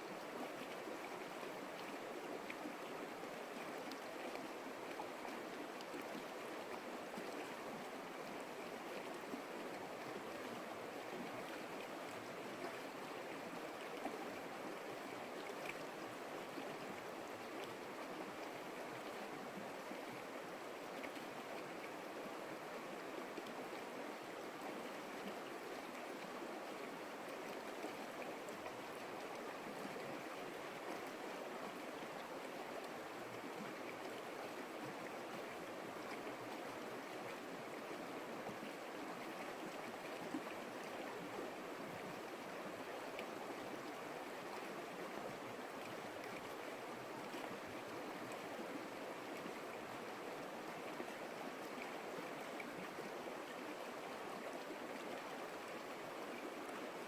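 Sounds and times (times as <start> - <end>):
creek water flowing: 0.0 - 57.0.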